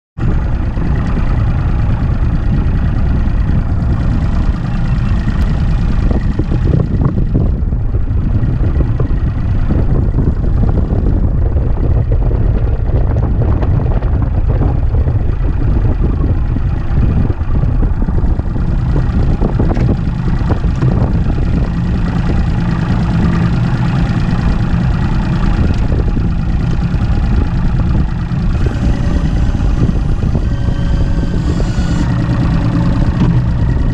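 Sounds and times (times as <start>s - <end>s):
outboard engine droning: 0.2s - 33.9s.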